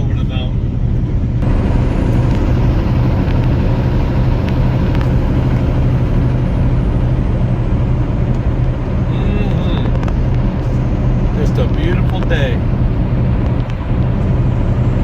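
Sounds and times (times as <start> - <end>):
road noise: 0.0 - 15.0
truck engine droning: 0.0 - 15.0.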